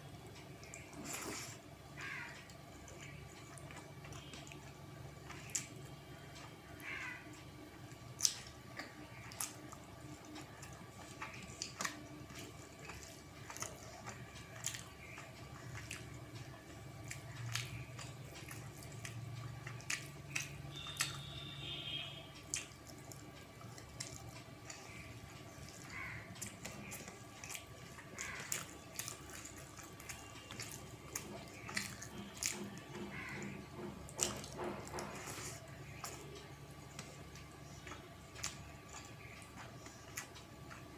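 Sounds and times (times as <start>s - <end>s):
faint steady hum: 0.0s - 40.9s
wet eating clicks and smacks: 2.3s - 21.5s, 22.4s - 40.9s.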